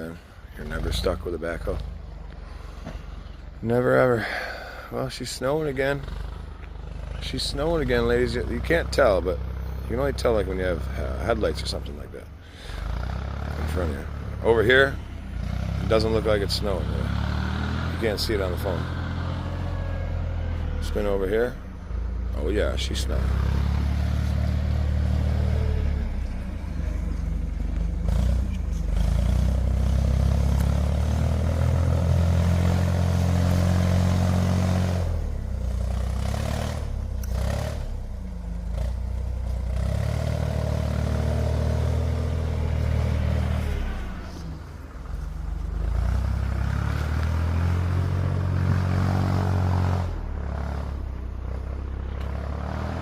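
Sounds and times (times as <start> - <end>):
vehicle engine revving: 0.0 - 53.0.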